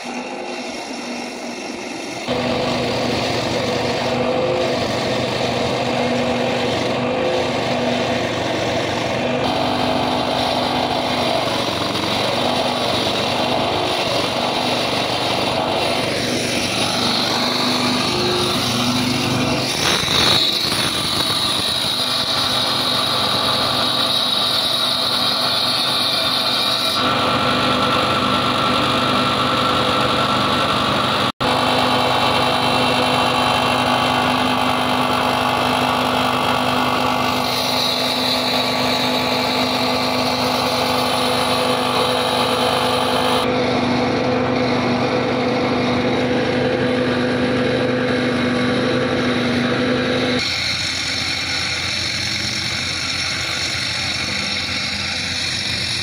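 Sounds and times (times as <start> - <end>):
concrete saw cutting: 0.0 - 56.0
engines running steadily: 0.0 - 56.0
high whine: 0.0 - 56.0.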